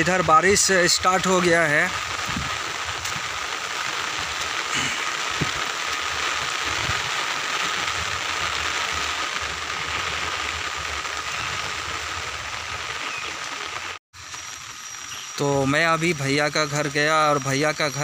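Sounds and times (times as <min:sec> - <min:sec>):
rain on umbrella: 0:00.0 - 0:15.8.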